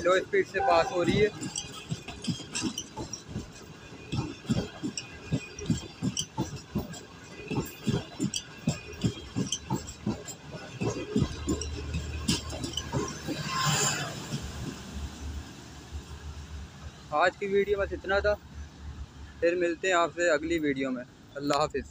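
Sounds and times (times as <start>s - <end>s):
train wheels clickety-clack: 0.0s - 21.9s.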